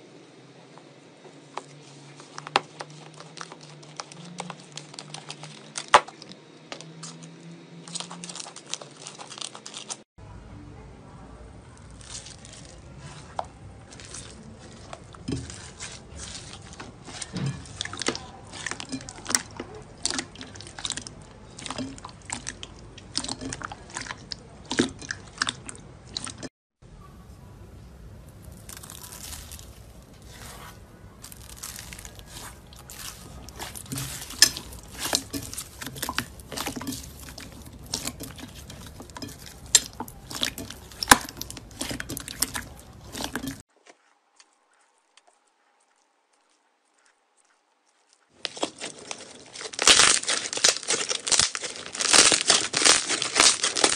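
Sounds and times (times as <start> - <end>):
slime squelching and popping: 2.2 - 6.4, 11.8 - 26.5, 28.2 - 53.9.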